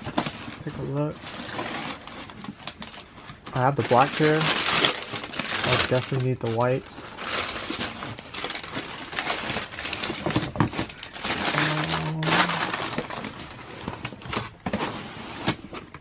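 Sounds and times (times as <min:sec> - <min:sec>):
paper and cardboard rustling: 0:00.0 - 0:16.0.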